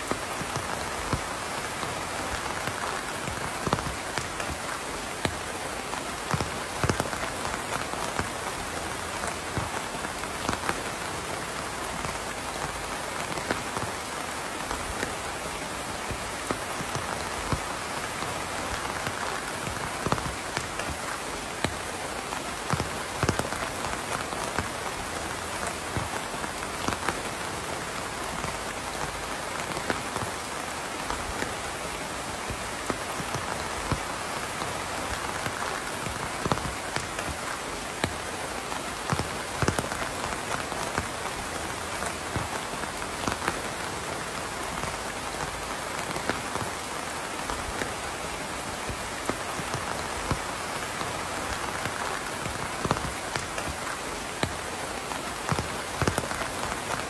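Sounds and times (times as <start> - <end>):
louder raindrops striking: 0.0 - 57.0
steady rain falling: 0.0 - 57.0.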